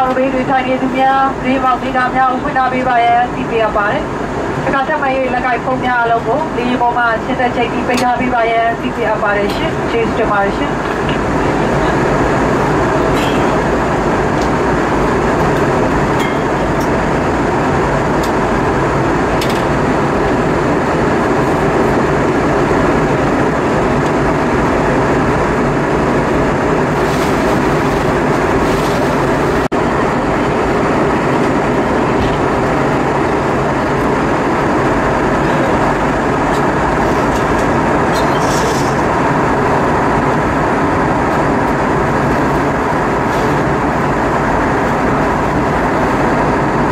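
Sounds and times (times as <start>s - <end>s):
airliner cabin noise: 0.0s - 46.9s.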